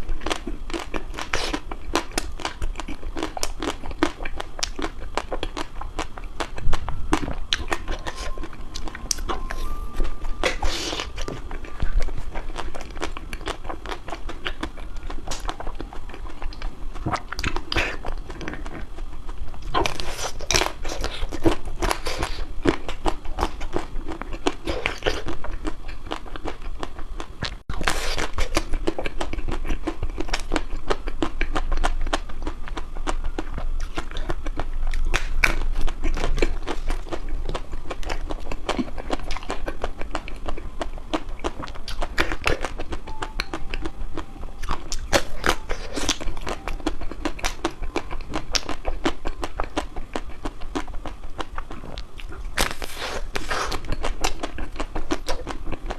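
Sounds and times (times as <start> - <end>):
crunching and chewing ice cream: 0.0 - 55.9.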